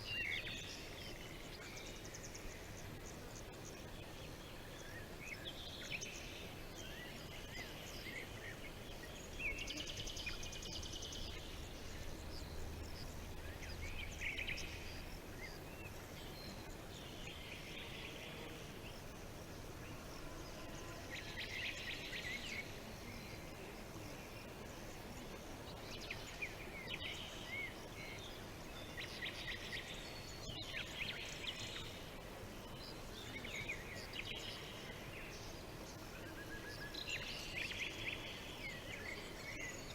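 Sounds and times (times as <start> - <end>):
outdoor background hiss: 0.0 - 39.9
small birds chirping and trilling: 0.0 - 39.9.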